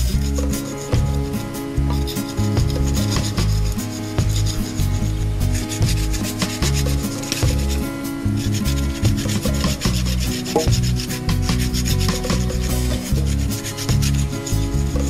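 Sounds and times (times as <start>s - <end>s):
background music: 0.0s - 15.0s
knife scraping wooden stick: 0.0s - 15.0s.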